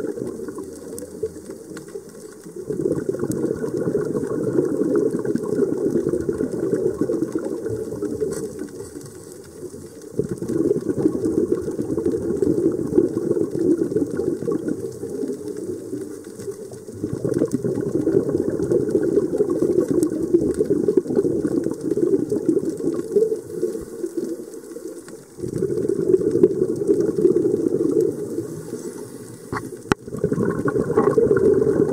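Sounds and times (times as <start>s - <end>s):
scuba regulator bubbling underwater: 0.0s - 31.9s.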